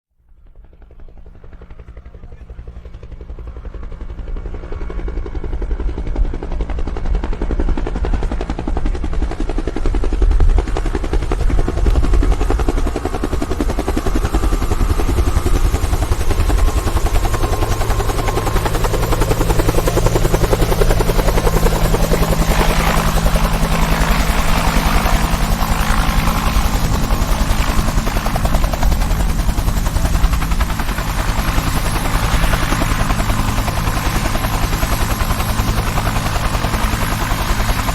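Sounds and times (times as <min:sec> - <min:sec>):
helicopter whine: 0:00.2 - 0:37.9
helicopter rotor beat: 0:00.3 - 0:37.9.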